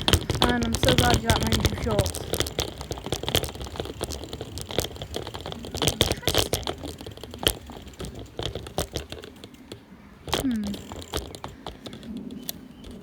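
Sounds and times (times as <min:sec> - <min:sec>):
bicycle rattling over bumps: 0:00.0 - 0:13.0.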